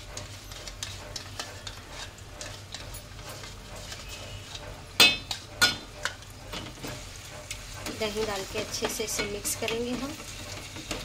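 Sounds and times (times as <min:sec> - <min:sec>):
food crackling in a pot: 0:00.0 - 0:11.0
metal clanks against a pot: 0:00.0 - 0:11.0.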